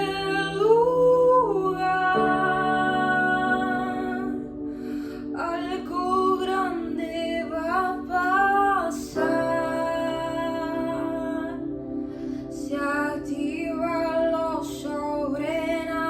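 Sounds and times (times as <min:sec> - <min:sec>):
woman singing a worship song: 0:00.0 - 0:16.0.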